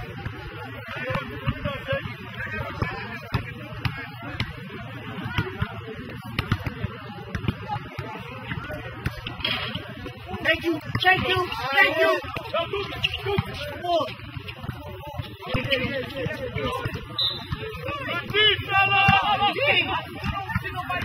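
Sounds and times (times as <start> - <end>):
spectators chattering: 0.0 - 21.0
basketball bouncing on asphalt: 0.1 - 21.0.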